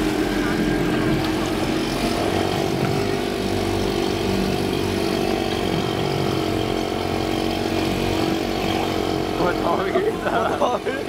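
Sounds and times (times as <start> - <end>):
small outboard motor running: 0.0 - 11.0.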